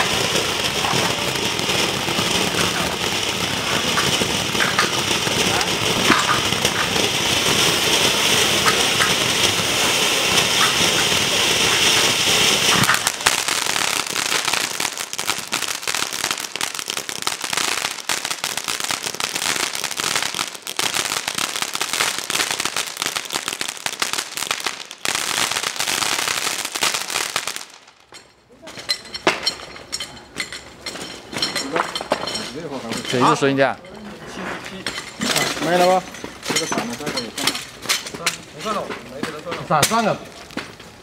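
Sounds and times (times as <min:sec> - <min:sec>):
fireworks fountain hissing: 0:00.0 - 0:28.2, 0:30.5 - 0:41.0
fireworks rapid crackling: 0:00.0 - 0:29.4, 0:34.9 - 0:41.0.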